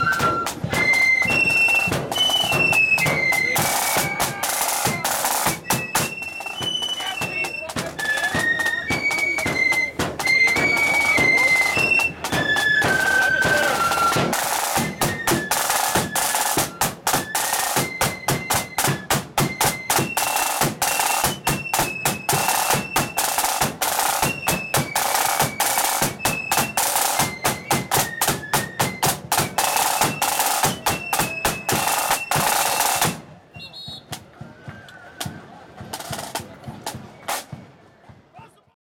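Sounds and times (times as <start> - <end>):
high flute melody: 0.0 - 38.5
marching drums beating: 0.0 - 38.7.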